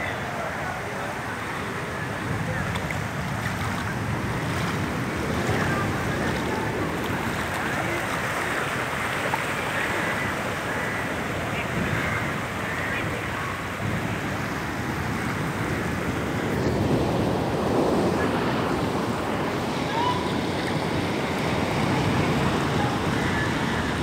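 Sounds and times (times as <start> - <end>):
seawater rushing and churning: 0.0 - 24.0
wind buffeting microphone: 0.0 - 24.0.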